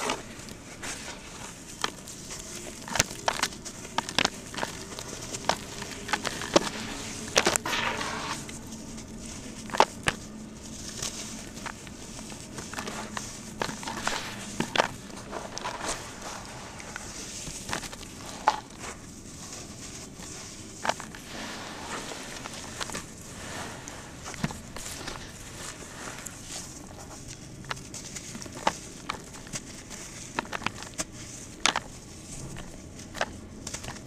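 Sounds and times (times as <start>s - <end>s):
gritty cement crunching: 0.0s - 34.0s
soft wet rustle: 0.0s - 34.0s.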